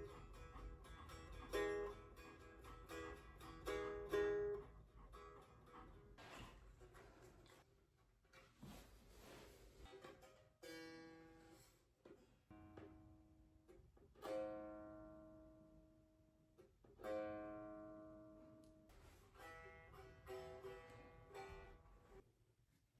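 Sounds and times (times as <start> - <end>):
plucked string instrument: 0.0 - 7.6, 9.7 - 22.2.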